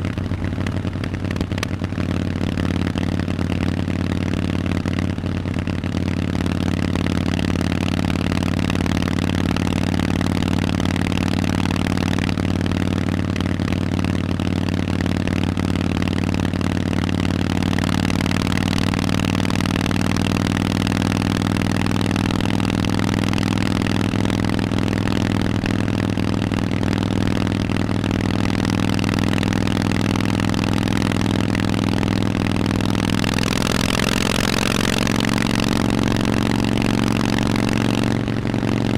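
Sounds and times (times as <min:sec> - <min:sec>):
motorcycle engine deep exhaust: 0:00.0 - 0:38.9.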